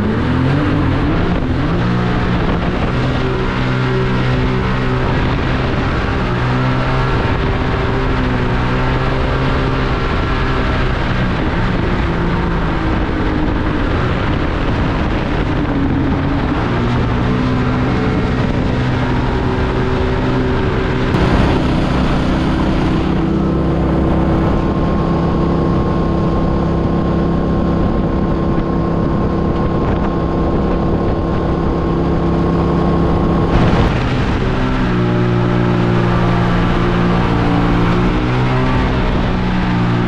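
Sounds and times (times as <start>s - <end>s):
boat motor running: 0.0s - 40.0s
wind on microphone: 0.0s - 40.0s.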